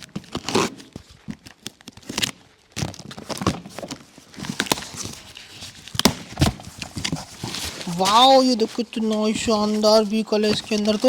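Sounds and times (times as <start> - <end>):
cardboard rustling and crinkling: 0.0 - 11.0.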